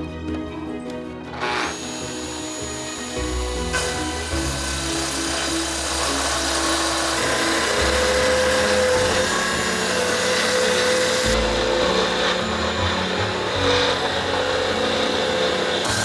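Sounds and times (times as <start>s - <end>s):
background music: 0.0s - 16.0s
power tool running: 1.3s - 16.0s.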